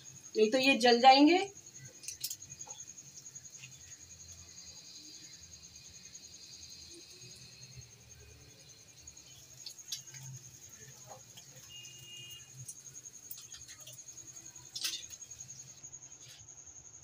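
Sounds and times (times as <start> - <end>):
bread frying in oil: 0.0 - 16.5.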